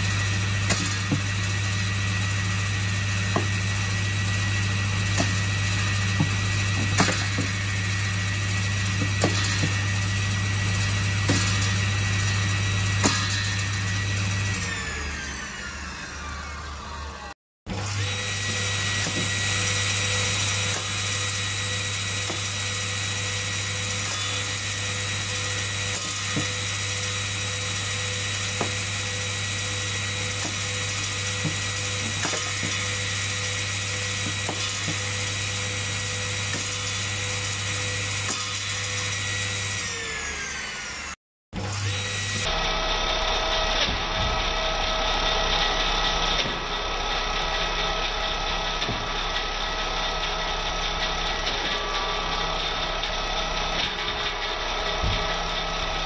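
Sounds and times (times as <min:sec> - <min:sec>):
circular saw motor whine: 0:00.0 - 0:56.0.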